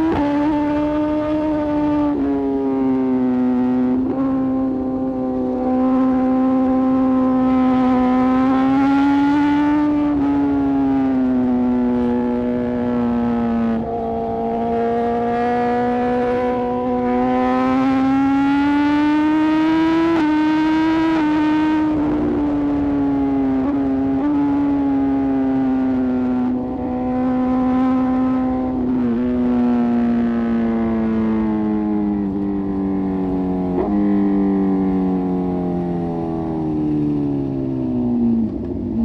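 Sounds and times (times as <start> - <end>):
motorcycle engine at high revs: 0.0 - 39.0
wind and road noise: 0.0 - 39.0.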